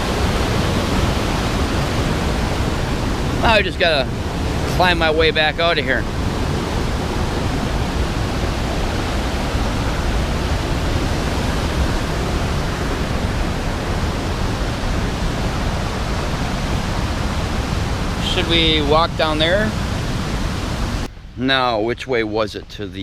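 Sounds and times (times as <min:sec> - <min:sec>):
waterfall rushing: 0:00.0 - 0:21.1.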